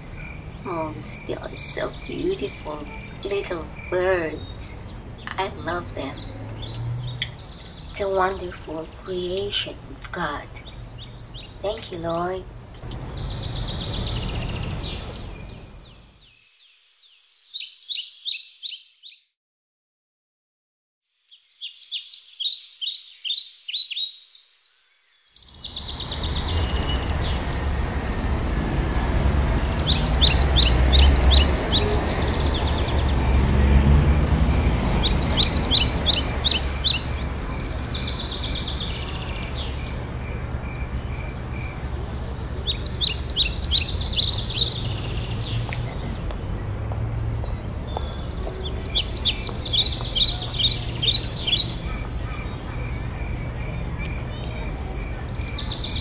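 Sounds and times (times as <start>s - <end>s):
songbirds chirping: 0.0s - 19.2s, 21.2s - 56.0s.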